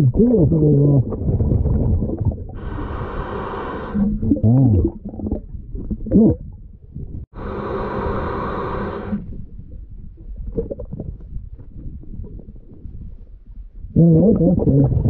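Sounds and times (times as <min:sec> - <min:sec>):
underwater regulator bubbles: 0:00.0 - 0:07.2, 0:08.8 - 0:13.0, 0:14.0 - 0:15.0.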